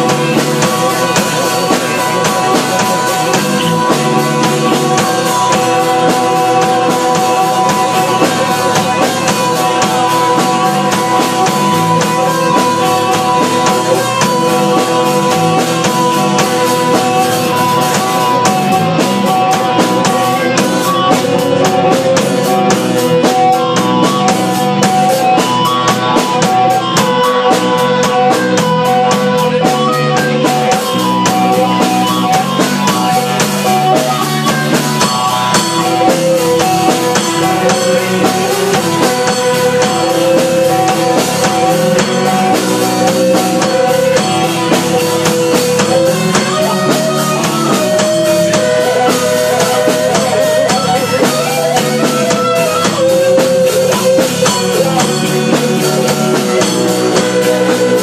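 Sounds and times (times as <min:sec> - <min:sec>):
drum kit: 0:00.0 - 0:58.0
electric guitars: 0:00.0 - 0:58.0
keyboard: 0:00.0 - 0:58.0.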